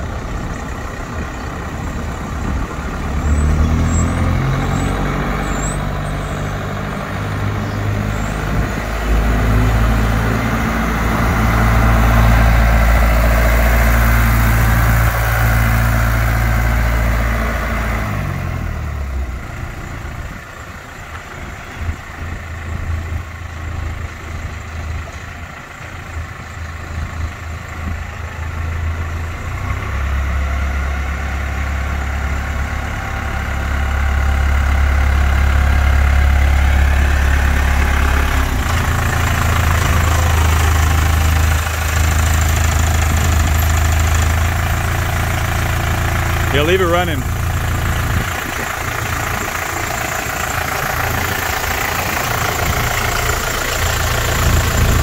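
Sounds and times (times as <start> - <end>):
tractor engine passing by: 0.0 - 55.0.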